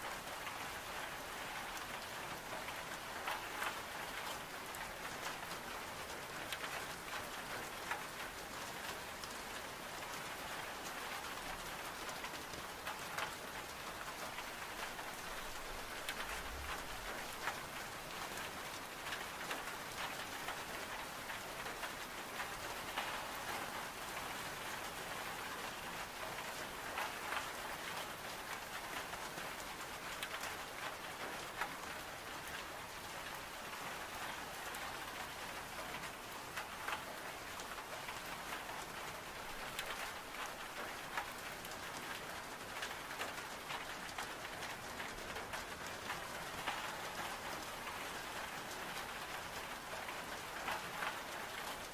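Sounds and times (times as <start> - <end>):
rain on window glass: 0.0 - 51.9.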